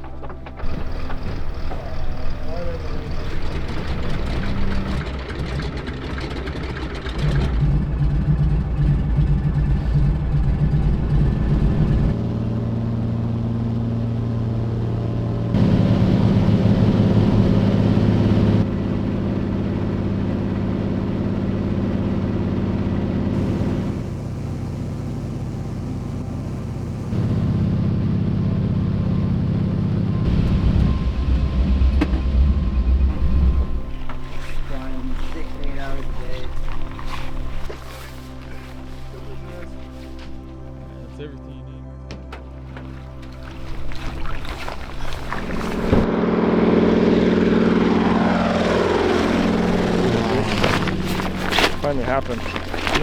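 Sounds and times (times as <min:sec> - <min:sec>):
steady engine drone: 0:00.0 - 0:53.0.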